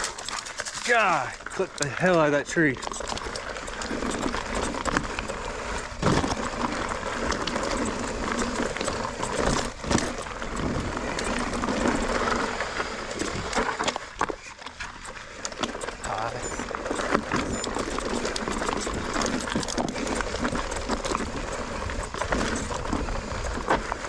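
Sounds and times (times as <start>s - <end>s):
bike knocking and rattling on rocks: 0.0s - 24.0s.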